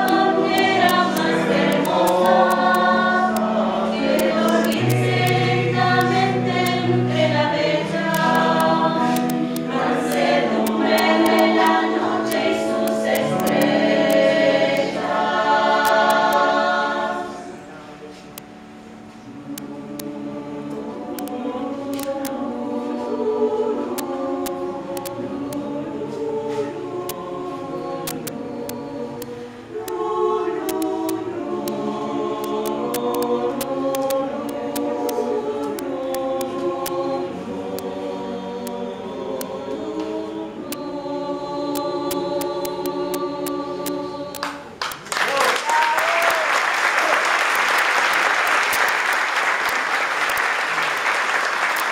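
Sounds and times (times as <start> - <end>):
mixed choir singing in harmony: 0.0 - 18.2, 19.2 - 44.8.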